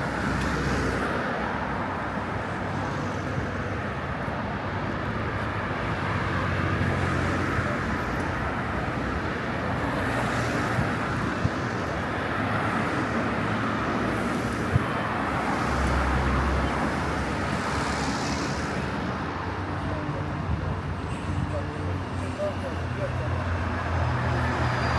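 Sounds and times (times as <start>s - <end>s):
car engines and tyres humming: 0.0s - 24.9s.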